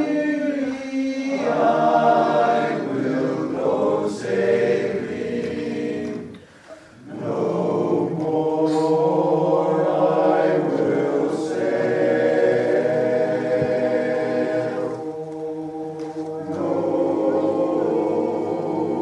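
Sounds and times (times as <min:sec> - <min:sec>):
men's chorus singing a cappella: 0:00.0 - 0:19.0.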